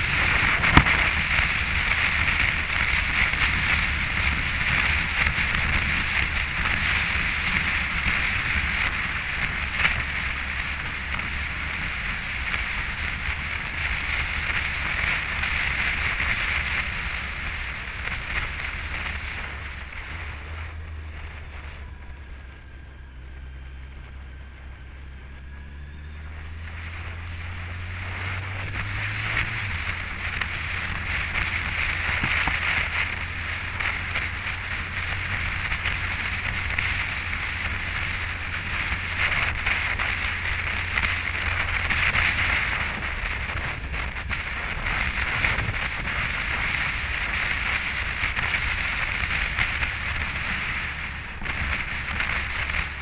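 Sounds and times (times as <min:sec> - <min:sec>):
motorcycle engine revving: 0:00.0 - 0:53.0
wind rushing on microphone: 0:00.0 - 0:53.0.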